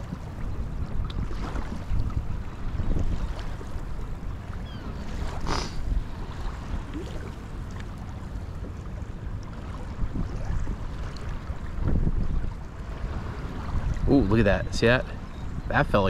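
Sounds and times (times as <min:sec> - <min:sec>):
waves lapping against kayak hull: 0:00.0 - 0:16.0
wind buffeting microphone: 0:00.0 - 0:16.0.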